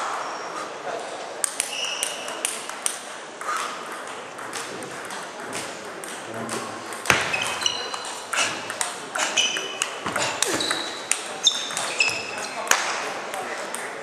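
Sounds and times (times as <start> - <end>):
table tennis ball clicking: 1.4 - 14.0.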